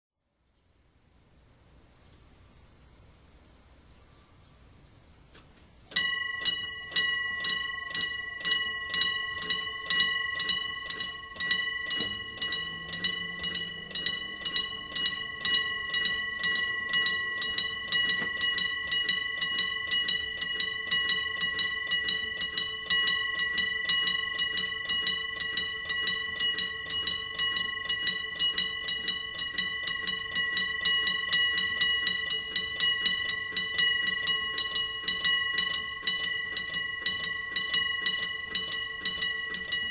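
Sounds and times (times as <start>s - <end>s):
level crossing bell ringing: 5.9s - 39.9s.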